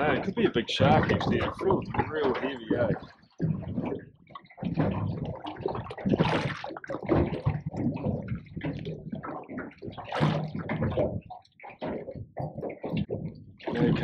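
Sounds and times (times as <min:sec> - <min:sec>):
sharp water splashes: 0:00.0 - 0:14.0
water slapping against boat hull: 0:00.0 - 0:14.0.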